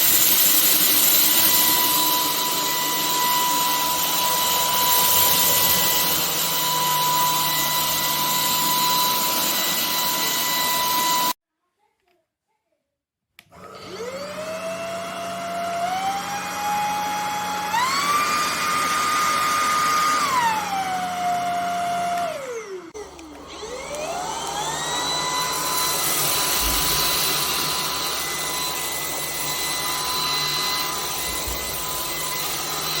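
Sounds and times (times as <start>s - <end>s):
stick vacuum motor whining: 0.0s - 11.4s, 13.4s - 33.0s.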